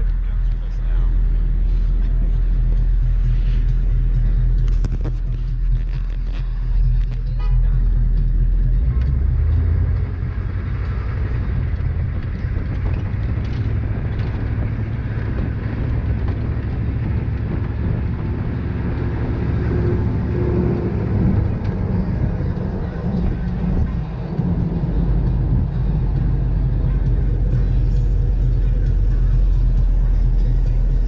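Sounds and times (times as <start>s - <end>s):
motor vehicle driving: 0.0s - 31.0s.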